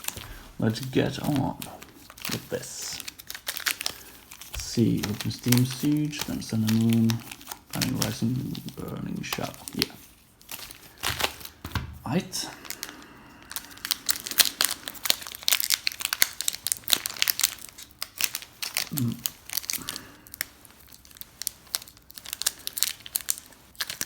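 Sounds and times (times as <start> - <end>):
foil wrapper crinkling: 0.0 - 24.0.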